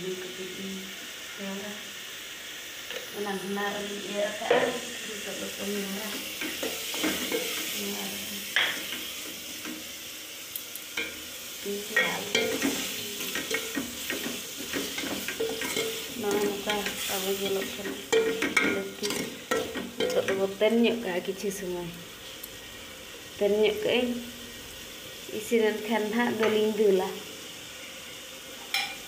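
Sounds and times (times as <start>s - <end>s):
food sizzling: 0.0s - 29.0s.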